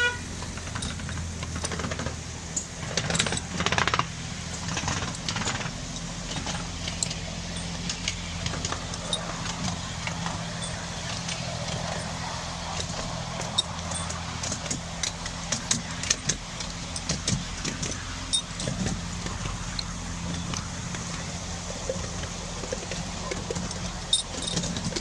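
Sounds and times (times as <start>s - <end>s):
locomotive low hum: 0.0s - 25.0s
wheels clicking and rattling: 0.0s - 25.0s.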